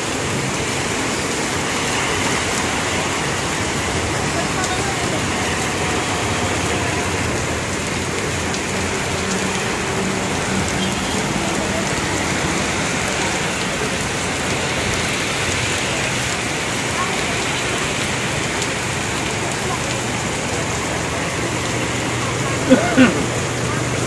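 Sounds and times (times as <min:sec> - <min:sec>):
heavy rain pouring on road: 0:00.0 - 0:24.0.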